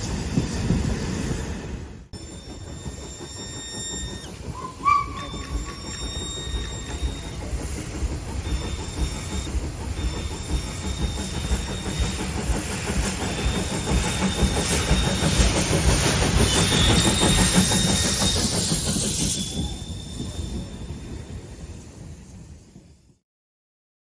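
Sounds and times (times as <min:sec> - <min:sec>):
wheels clicking on rails: 0:02.2 - 0:21.5
thin steady whine: 0:02.2 - 0:22.6.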